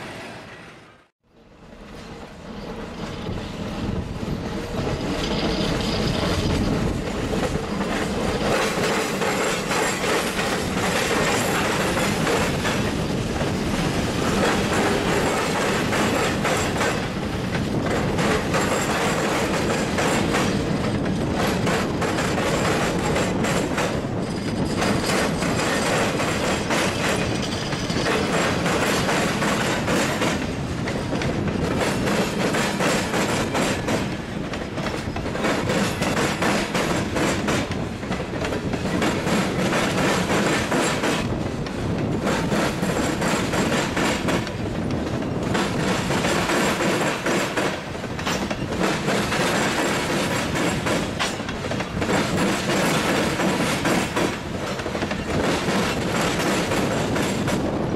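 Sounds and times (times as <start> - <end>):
freight train rolling past: 0.0 - 57.9
wheels clicking over rail joints: 4.6 - 57.9.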